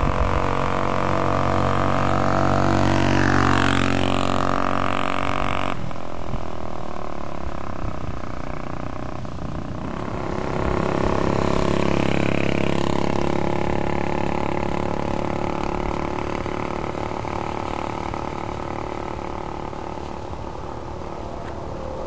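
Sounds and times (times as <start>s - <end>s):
motorized bicycle engine: 0.0s - 21.2s.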